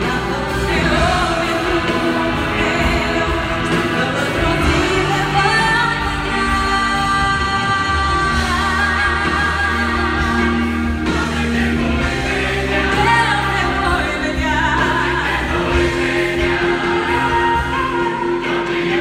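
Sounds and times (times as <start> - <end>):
choir singing: 0.0 - 19.0
live band playing: 0.0 - 19.0
woman singing lead: 0.0 - 19.0.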